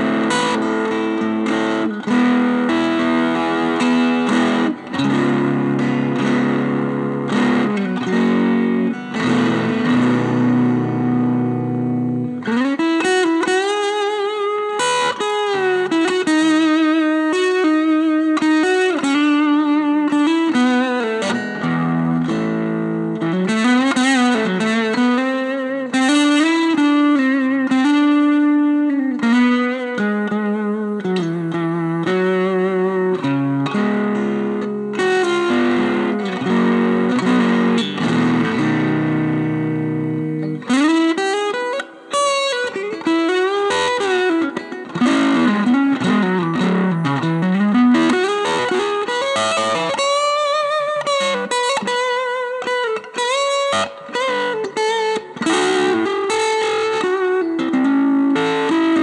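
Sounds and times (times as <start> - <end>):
electric guitar playing: 0.0 - 59.0.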